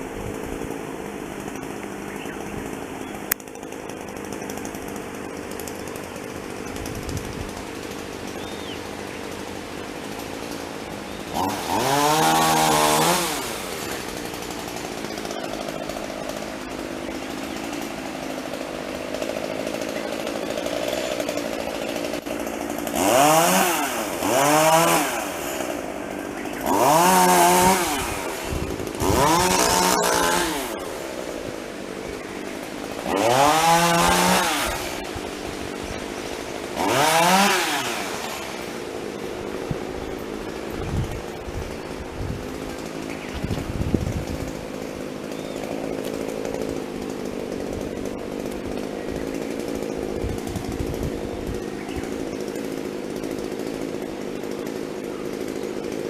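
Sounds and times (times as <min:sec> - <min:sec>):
small engine idling and revving: 0:00.0 - 0:56.0.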